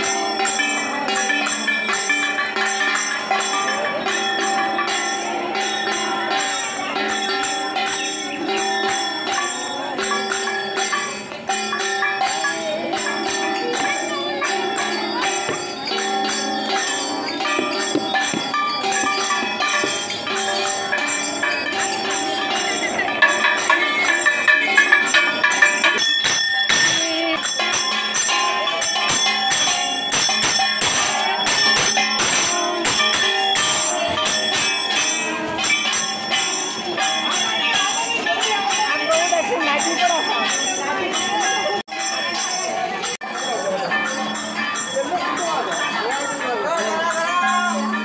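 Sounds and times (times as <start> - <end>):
hand cymbals clashing: 0.0 - 48.0
voices singing a chant: 0.0 - 48.0.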